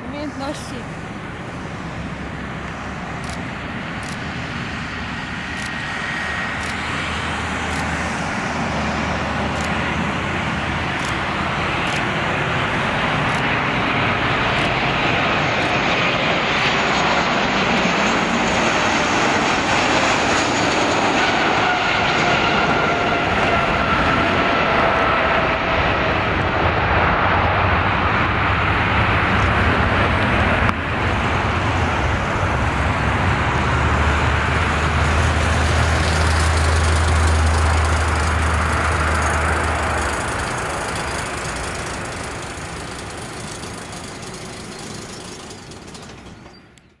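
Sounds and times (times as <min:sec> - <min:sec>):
jet engine roar: 0:00.0 - 0:46.9.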